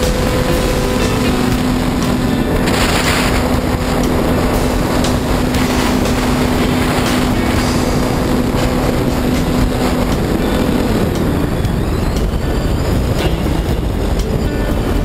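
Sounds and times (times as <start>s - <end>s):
model plane motor humming: 0.0s - 15.0s
wind rushing over microphone: 0.0s - 15.0s.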